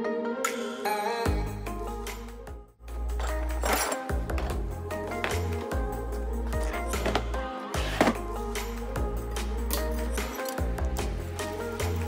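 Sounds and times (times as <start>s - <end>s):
background music with bass: 1.3s - 12.0s.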